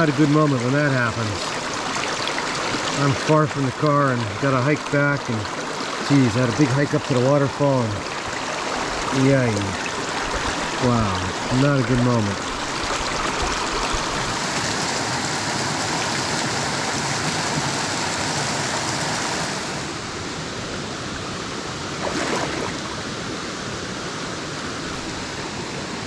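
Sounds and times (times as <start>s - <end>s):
fast stream water rushing: 0.0s - 26.0s.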